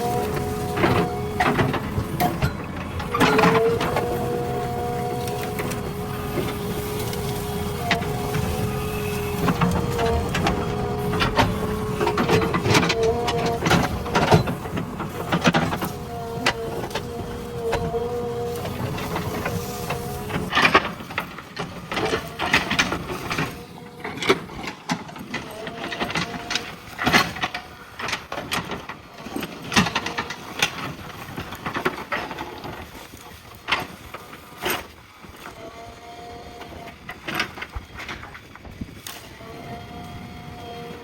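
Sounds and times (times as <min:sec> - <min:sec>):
cracks knocks and scrapes: 0:00.0 - 0:35.6
backhoe loader running: 0:00.0 - 0:41.0.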